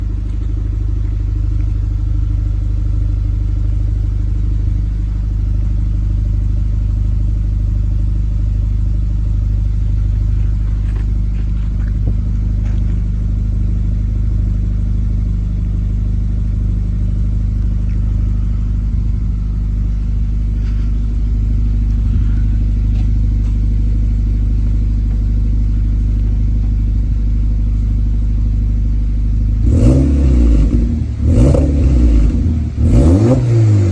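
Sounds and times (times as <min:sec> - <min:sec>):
car exhaust idling: 0:00.0 - 0:33.9.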